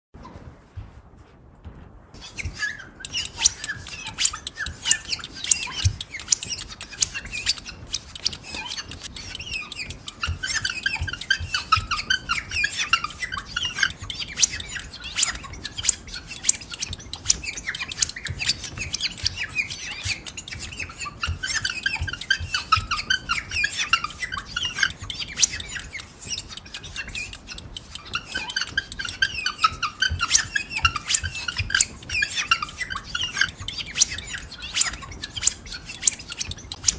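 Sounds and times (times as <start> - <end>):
imitation birdsong chirps: 2.2 - 36.9
sharp clicks: 2.2 - 36.9.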